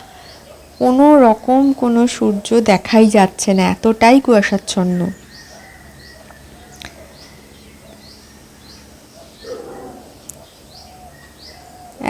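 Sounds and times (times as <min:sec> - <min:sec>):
faint lower bird calls: 0:00.0 - 0:02.5, 0:03.7 - 0:12.0.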